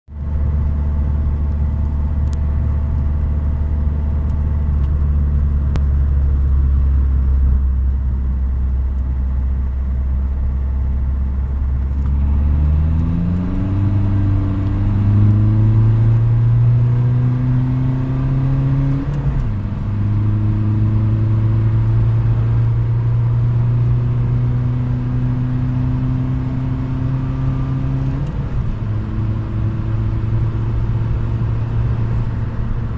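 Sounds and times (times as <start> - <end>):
car engine accelerating hard: 0.2 - 32.9.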